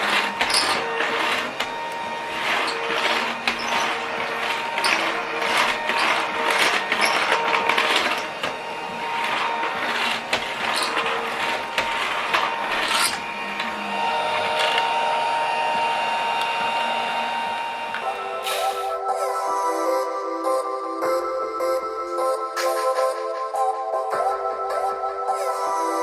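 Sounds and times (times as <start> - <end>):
toy vacuum motor whine: 0.0 - 23.1.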